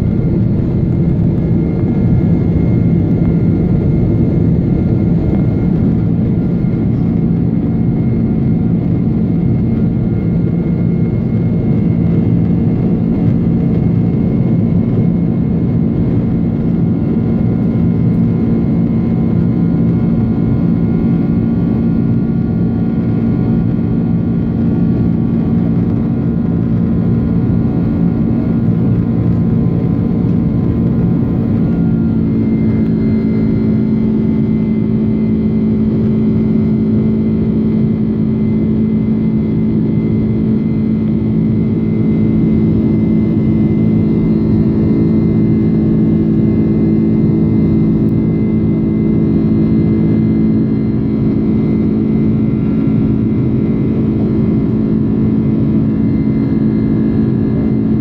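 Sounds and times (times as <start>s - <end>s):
jet engines droning in cabin: 0.0s - 58.0s.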